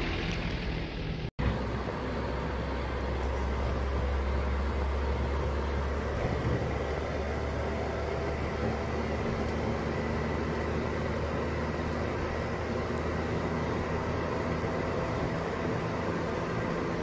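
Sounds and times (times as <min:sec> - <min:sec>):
diesel truck engine droning: 0:00.0 - 0:17.0
road noise: 0:00.0 - 0:17.0.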